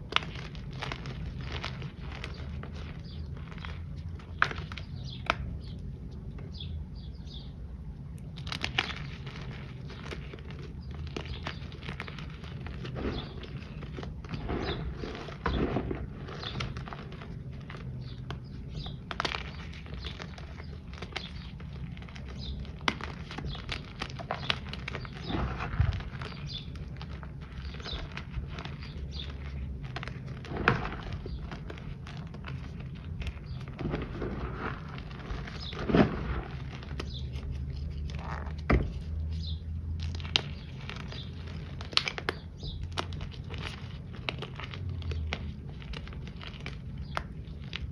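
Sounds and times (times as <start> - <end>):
hands crunching powder: 0.0 - 6.5, 8.1 - 47.9
low steady hum: 0.0 - 47.9.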